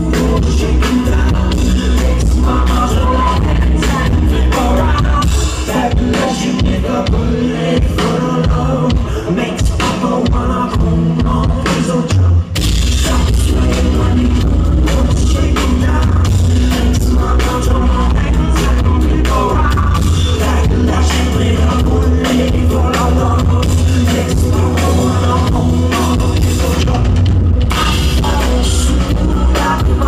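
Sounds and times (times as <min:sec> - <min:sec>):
guitar: 0:00.0 - 0:30.0
heavy bass line: 0:00.0 - 0:30.0
person singing: 0:00.0 - 0:30.0.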